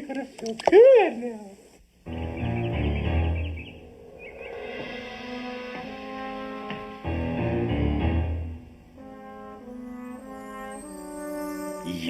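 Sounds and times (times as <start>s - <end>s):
soft held background music: 2.1s - 12.0s.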